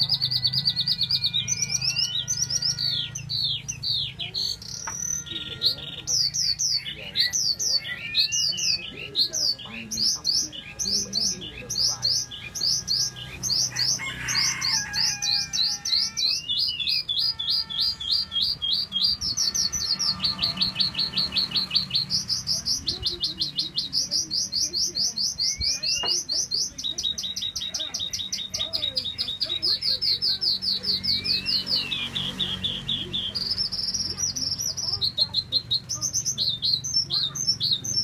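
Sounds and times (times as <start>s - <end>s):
lark singing: 0.0s - 38.0s.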